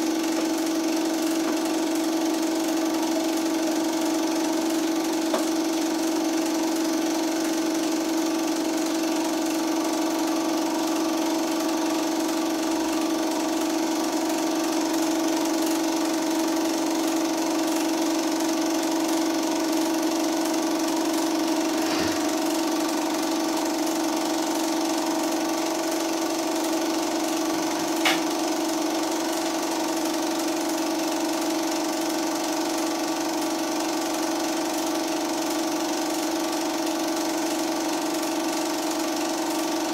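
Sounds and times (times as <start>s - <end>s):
film projector motor hum: 0.0s - 39.9s.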